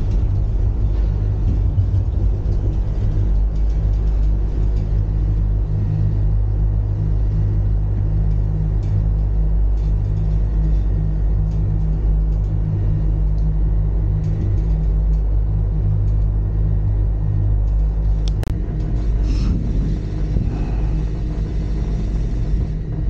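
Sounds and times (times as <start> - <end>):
gondola rumble and hum: 0.0 - 23.0
rattling rumble over support tower: 0.0 - 23.0.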